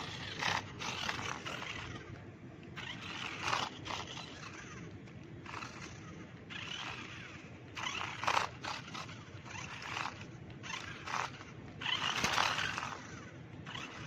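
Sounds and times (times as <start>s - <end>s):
toy car motor and wheels scraping: 0.0s - 2.2s, 2.8s - 14.0s.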